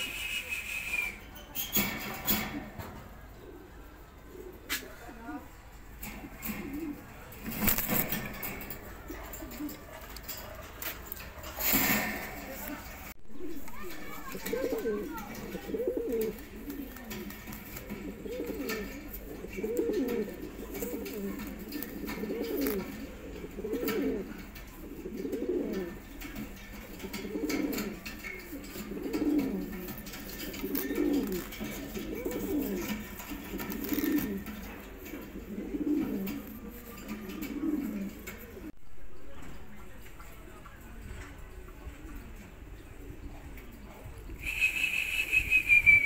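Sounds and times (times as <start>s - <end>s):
pigeon cooing: 0.0s - 38.7s, 42.2s - 46.0s.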